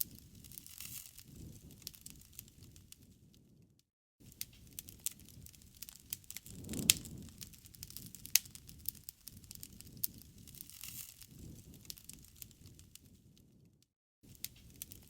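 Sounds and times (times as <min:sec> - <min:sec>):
campfire crackling: 0:00.0 - 0:13.7, 0:14.3 - 0:15.0.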